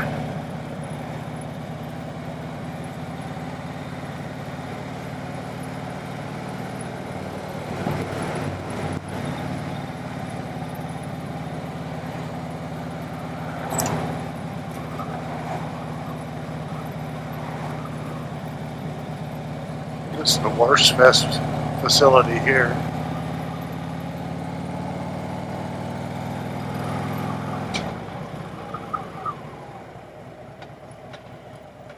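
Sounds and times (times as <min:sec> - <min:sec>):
motorcycle engine running: 0:00.0 - 0:31.9
road and wind noise: 0:00.0 - 0:31.9.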